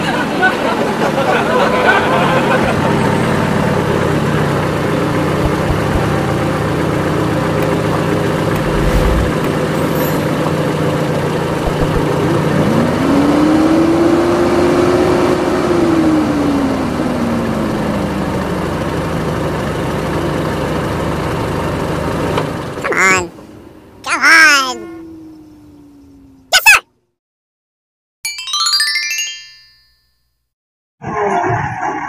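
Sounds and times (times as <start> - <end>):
vehicle engine idling and revving: 0.0 - 24.0, 24.8 - 26.5.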